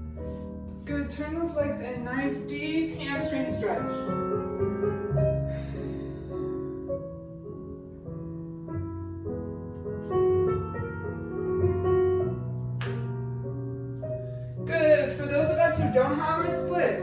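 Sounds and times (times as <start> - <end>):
gentle jazz piano music: 0.0 - 17.0.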